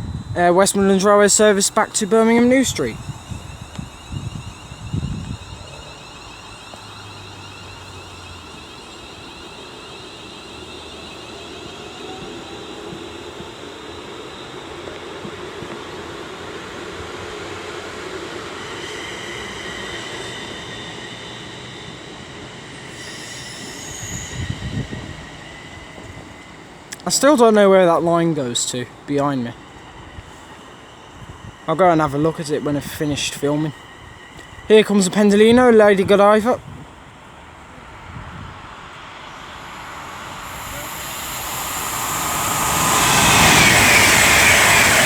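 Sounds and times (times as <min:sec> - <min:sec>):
electric train motors whining: 0:00.0 - 0:45.0
train wheel squeal: 0:00.0 - 0:45.0.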